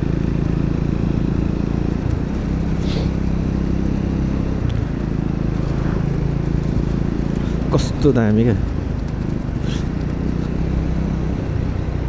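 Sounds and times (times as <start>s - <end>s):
motorcycle engine running: 0.0s - 12.0s
wind noise: 0.7s - 12.0s.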